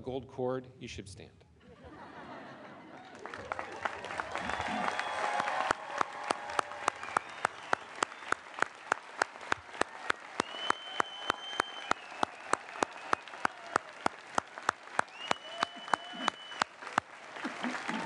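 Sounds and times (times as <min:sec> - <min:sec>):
faint crowd clapping: 0:02.6 - 0:18.0
person clapping close by: 0:03.3 - 0:18.0.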